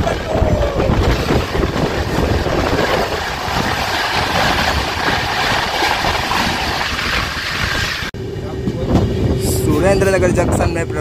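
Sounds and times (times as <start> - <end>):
passing train rush and wheel clatter: 0.0 - 11.0
train running noise: 0.0 - 11.0.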